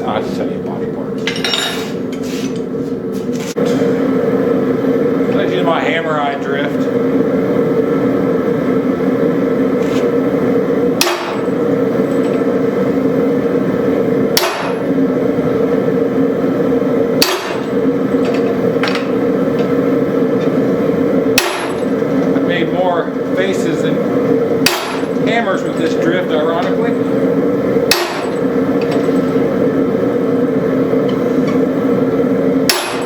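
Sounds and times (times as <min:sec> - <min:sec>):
steady loud drone: 0:03.7 - 0:33.0.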